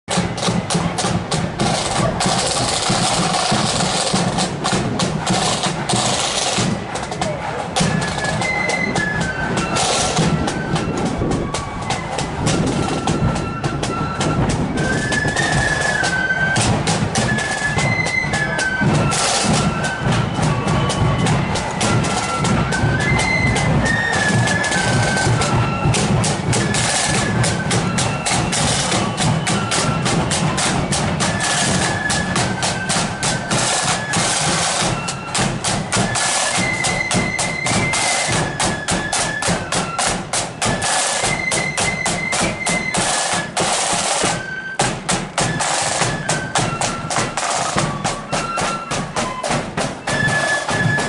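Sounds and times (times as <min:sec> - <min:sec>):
drums beating: 0:00.1 - 0:51.0
flutes playing melody: 0:00.1 - 0:51.0.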